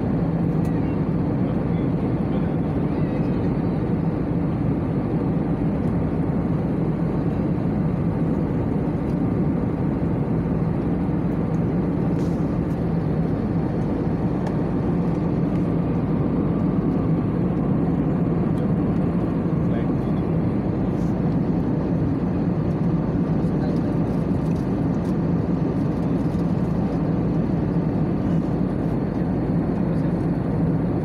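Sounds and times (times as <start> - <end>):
jet airliner cabin roar: 0.0 - 31.0.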